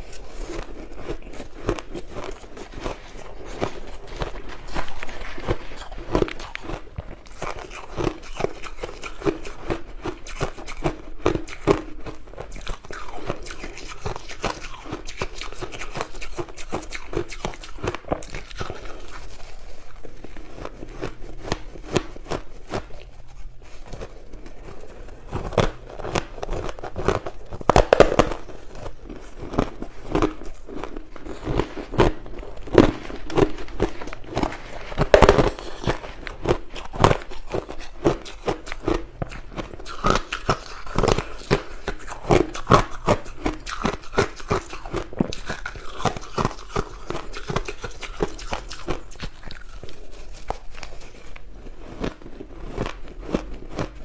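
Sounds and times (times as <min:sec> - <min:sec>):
crushed ice being chewed: 0:00.0 - 0:54.0.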